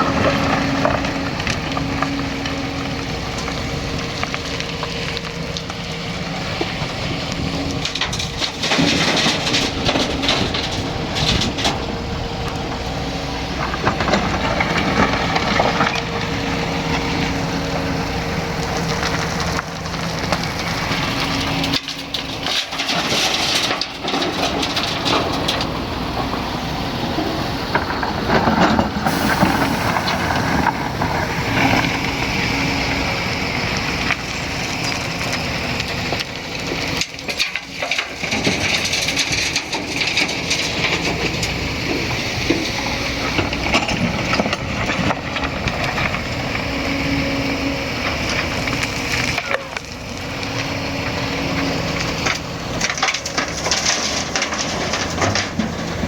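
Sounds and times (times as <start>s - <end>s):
excavator diesel engine: 0.0s - 56.0s
soil and rock crunching: 0.0s - 56.0s.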